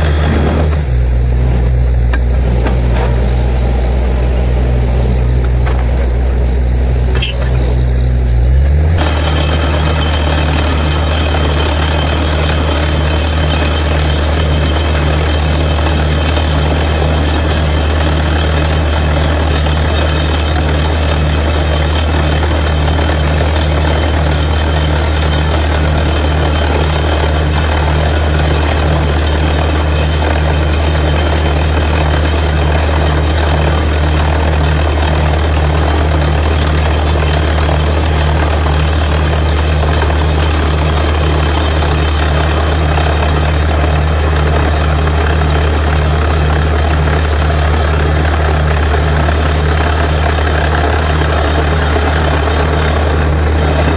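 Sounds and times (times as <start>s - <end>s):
drilling rig engine drone: 0.0s - 53.9s.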